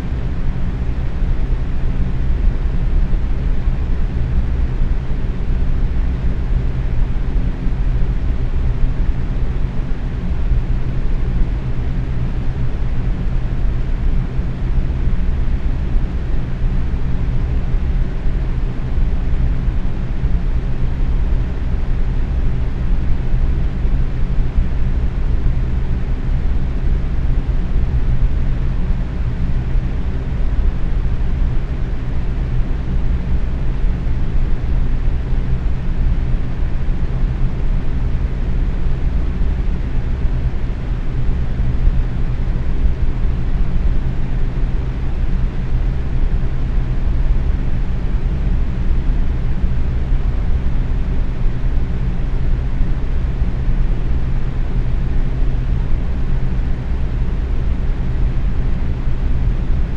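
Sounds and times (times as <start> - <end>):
box fan running: 0.0 - 59.9.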